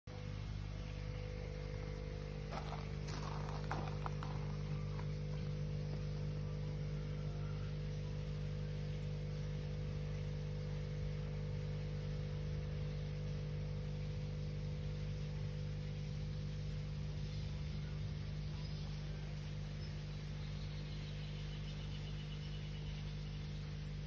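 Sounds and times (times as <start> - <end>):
low machine hum: 0.1 - 24.0.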